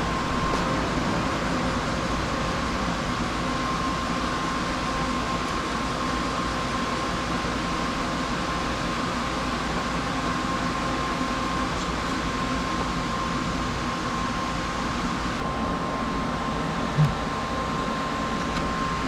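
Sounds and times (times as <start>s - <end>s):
mechanical hum with faint whine: 0.0s - 19.0s.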